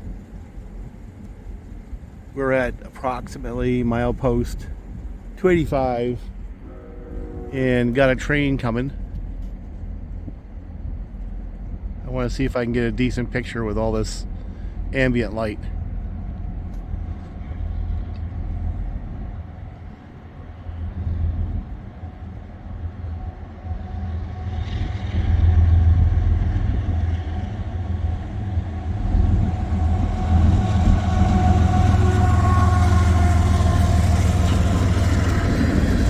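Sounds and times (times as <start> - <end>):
steady whine: 0.0 - 36.0
train running hum: 0.0 - 36.0.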